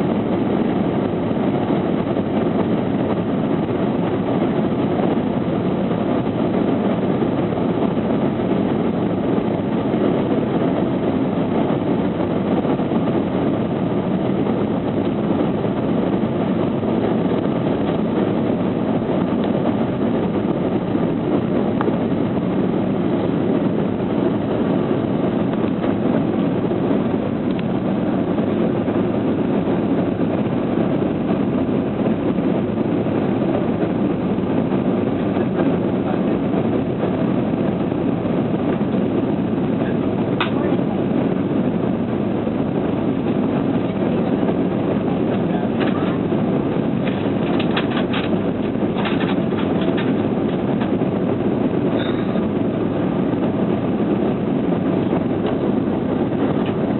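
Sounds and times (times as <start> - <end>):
airliner cabin noise in flight: 0.0 - 56.9.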